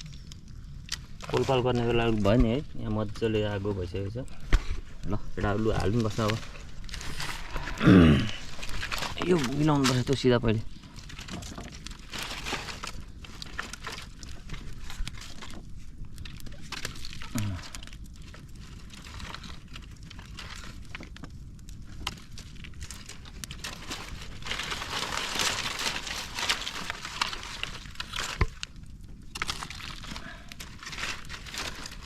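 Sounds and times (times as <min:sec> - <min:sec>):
campfire crackling: 0:00.0 - 0:32.0
sticks and leaves rustling: 0:00.0 - 0:32.0.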